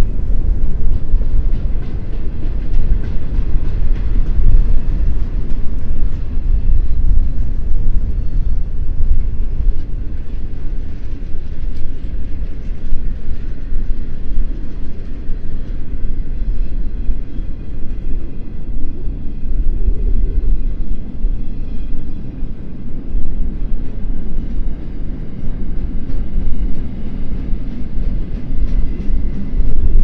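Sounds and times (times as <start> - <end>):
faint tones from train wheels: 0.0 - 30.0
freight train rumble: 0.0 - 30.0
wind buffeting microphone: 0.0 - 30.0.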